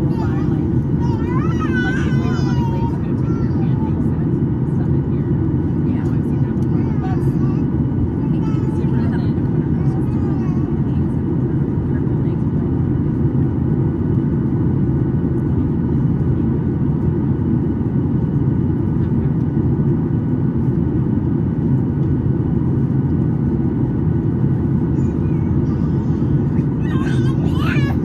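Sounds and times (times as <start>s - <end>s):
airflow over fuselage: 0.0s - 28.0s
jet engine rumble: 0.0s - 28.0s.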